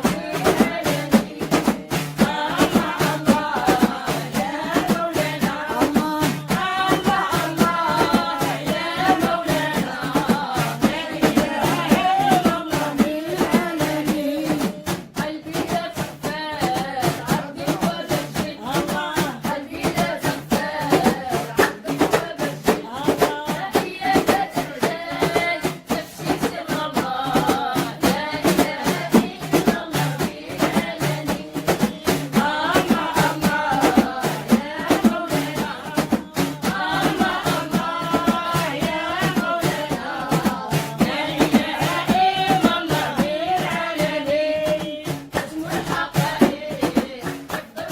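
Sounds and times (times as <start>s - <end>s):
devotional chanting: 0.0s - 47.9s
rhythmic percussion beat: 0.0s - 47.9s.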